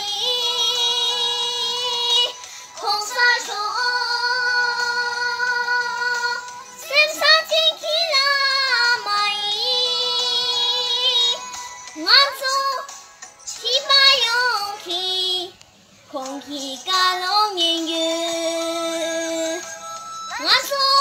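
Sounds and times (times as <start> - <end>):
girl singing: 0.0 - 19.7, 20.3 - 21.0.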